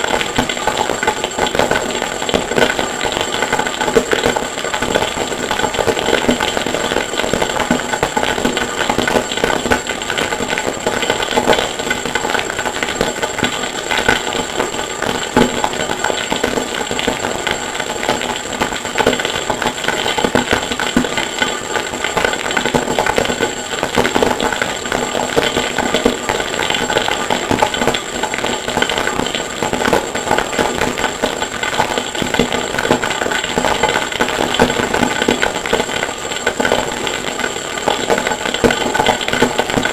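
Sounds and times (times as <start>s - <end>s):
distorted rapid clatter: 0.0s - 39.9s
steady high whine: 0.0s - 39.9s.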